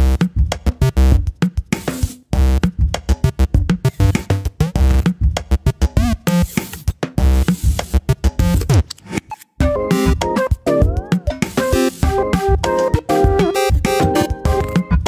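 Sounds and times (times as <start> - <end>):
electronic music with drum beat: 0.0 - 15.0.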